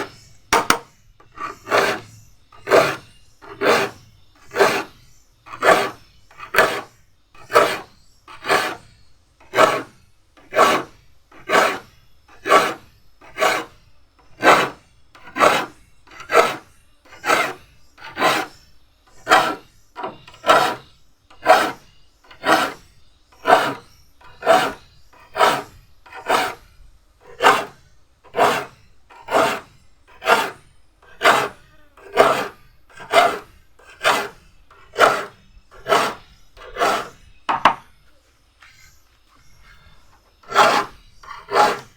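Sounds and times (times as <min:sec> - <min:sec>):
file rasping on saw teeth: 0:00.0 - 0:37.3, 0:38.7 - 0:41.9.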